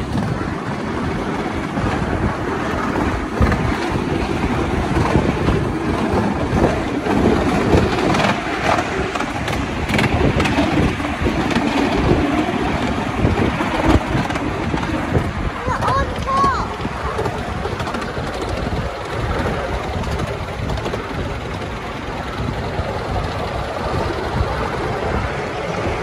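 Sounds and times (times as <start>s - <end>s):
miniature train rumbling: 0.0s - 26.0s
wind on microphone: 0.0s - 26.0s.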